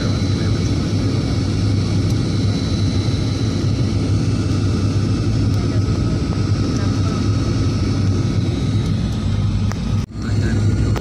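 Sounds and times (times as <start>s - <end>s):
motorboat engine drone: 0.0s - 11.0s.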